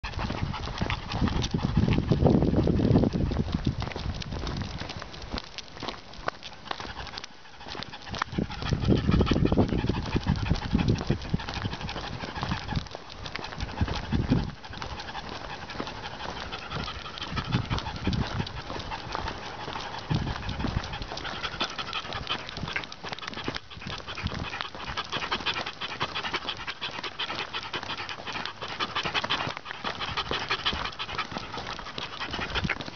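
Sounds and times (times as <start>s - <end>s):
dog feet tapping on pavement: 0.0s - 32.9s
dog panting rapidly: 0.0s - 32.9s.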